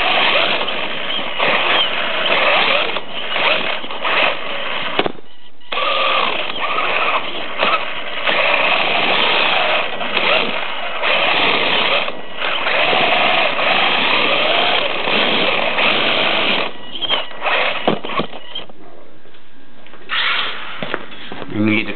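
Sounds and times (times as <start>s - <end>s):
electric motor whine: 0.0s - 18.7s.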